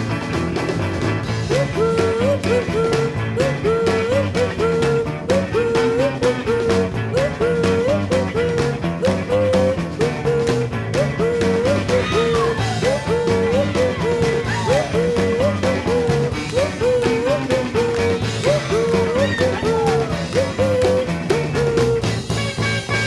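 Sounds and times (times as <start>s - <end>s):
upbeat rock and roll song: 0.0s - 23.0s.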